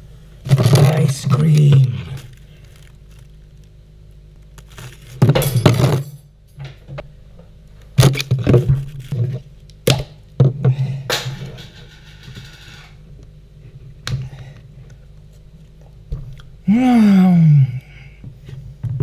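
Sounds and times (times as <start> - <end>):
steady low fridge hum: 0.0 - 19.0.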